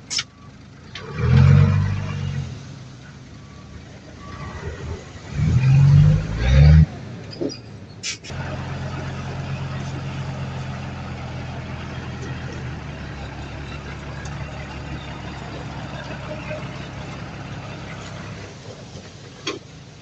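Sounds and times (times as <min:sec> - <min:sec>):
heavy machine diesel engine running: 0:00.0 - 0:20.0.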